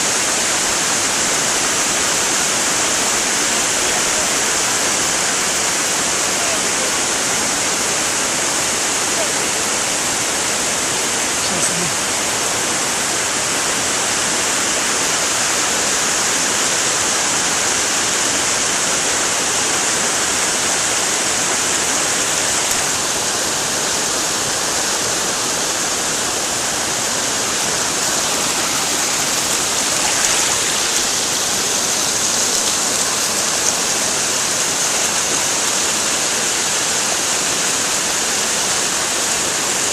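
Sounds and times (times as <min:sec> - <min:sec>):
waterfall thundering: 0:00.0 - 0:39.9.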